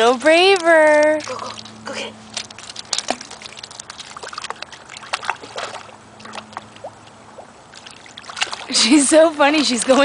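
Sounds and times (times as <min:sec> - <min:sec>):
dog splashing through water: 0:00.0 - 0:10.0.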